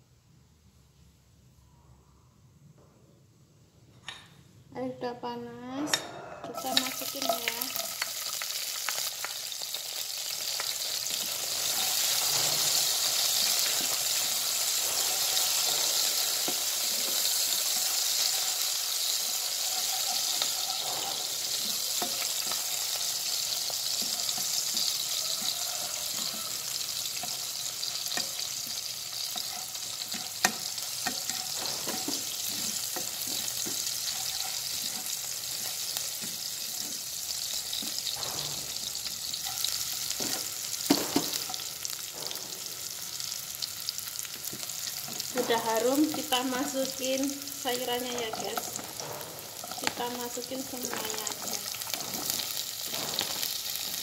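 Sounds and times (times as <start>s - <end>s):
food sizzling in hot oil: 6.4s - 54.0s.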